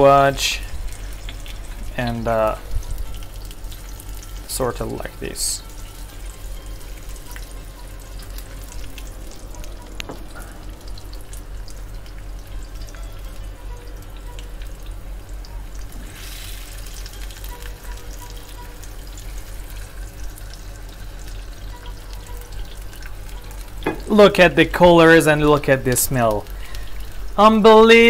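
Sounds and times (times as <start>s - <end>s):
squash sizzling in hot oil: 0.0s - 28.0s.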